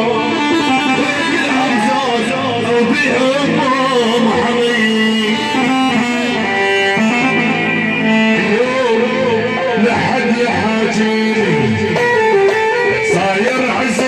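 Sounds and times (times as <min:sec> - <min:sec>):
live band plucked-string melody: 0:00.0 - 0:14.0.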